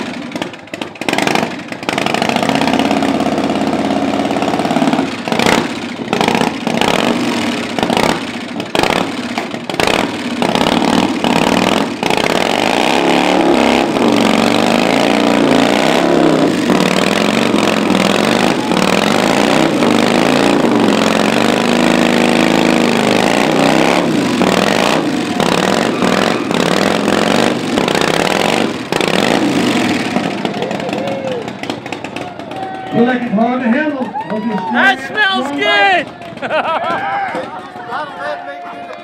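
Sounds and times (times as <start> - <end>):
motorcycle engine revving: 0.0 - 33.7.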